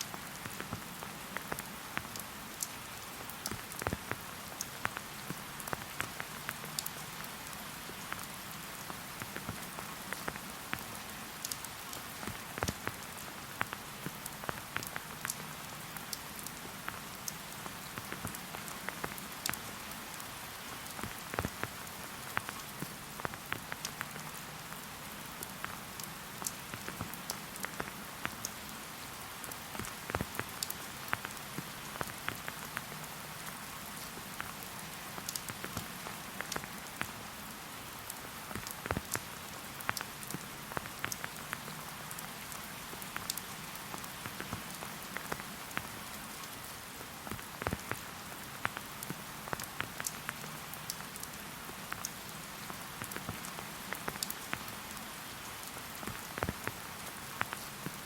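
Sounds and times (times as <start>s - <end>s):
raindrops ticking: 0.0s - 58.0s
steady rain: 0.0s - 58.0s.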